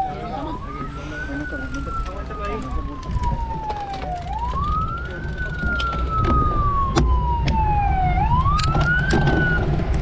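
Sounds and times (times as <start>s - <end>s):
emergency siren wailing: 0.0s - 9.8s.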